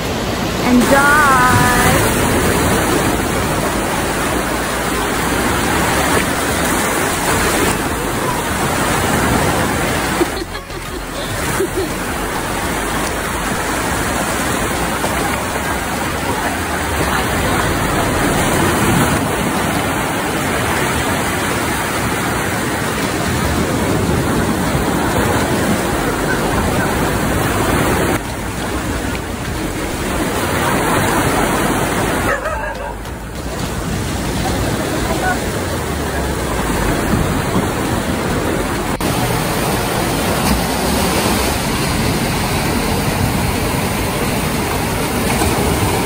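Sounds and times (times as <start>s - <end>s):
small waves breaking on sand: 0.0s - 46.0s.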